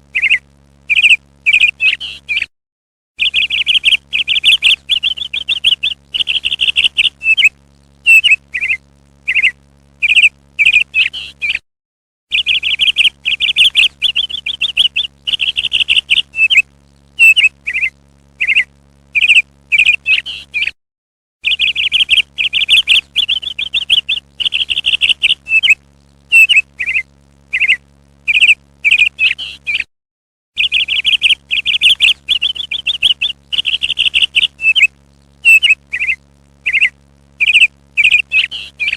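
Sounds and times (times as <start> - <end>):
low steady hum: 0.0 - 2.4, 3.2 - 11.5, 12.4 - 20.5, 21.5 - 29.7, 30.6 - 38.9
parrot chirping: 0.2 - 2.5, 3.2 - 7.5, 8.1 - 11.6, 12.3 - 16.6, 17.2 - 20.7, 21.4 - 29.9, 30.6 - 38.9.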